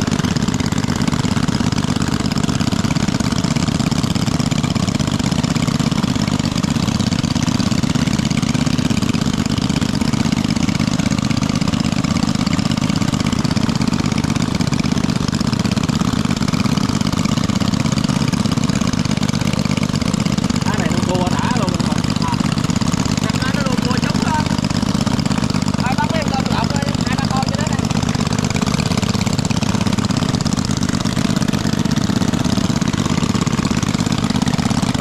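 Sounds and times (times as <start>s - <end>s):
small engine idling: 0.0s - 35.0s.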